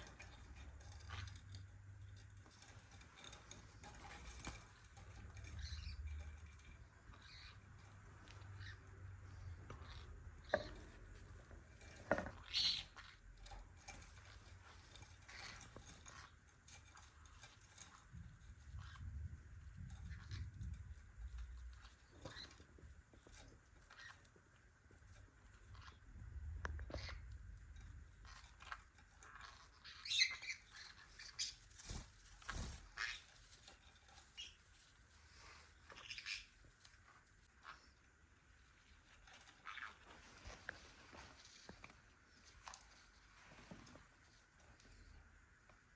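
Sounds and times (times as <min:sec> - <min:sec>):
parrots scuffling and pattering: 0:00.0 - 0:45.9.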